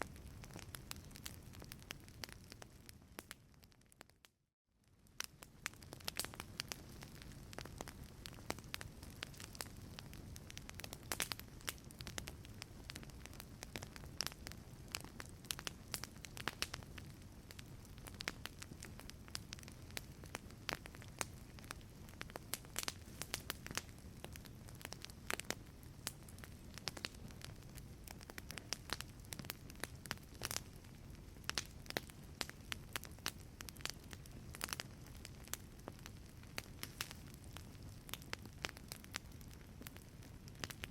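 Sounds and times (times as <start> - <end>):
fire rumbling: 0.0 - 4.0, 4.9 - 40.9
fire popping and snapping: 0.0 - 40.9.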